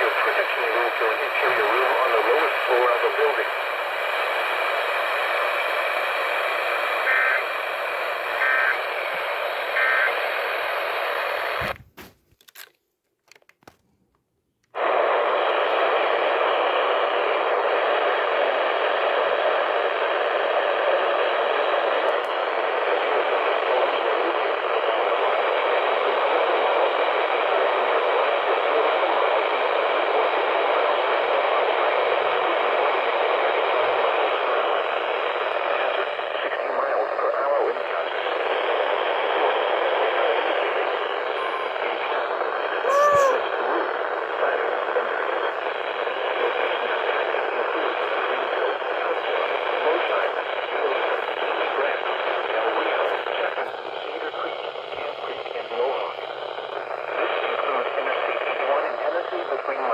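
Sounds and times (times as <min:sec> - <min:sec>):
radio static: 0:00.0 - 0:11.8, 0:14.8 - 0:30.4, 0:31.2 - 0:59.9.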